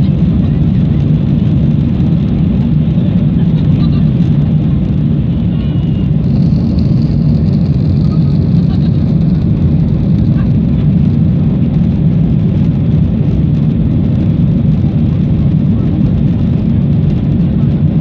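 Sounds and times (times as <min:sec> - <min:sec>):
jet cabin low rumble: 0:00.0 - 0:18.0.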